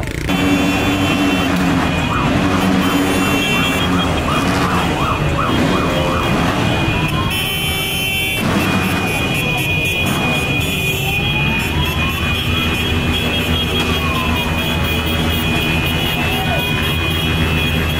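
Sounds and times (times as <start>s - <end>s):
motorcycle engines running: 0.0s - 17.9s
vehicle sirens: 0.1s - 17.9s.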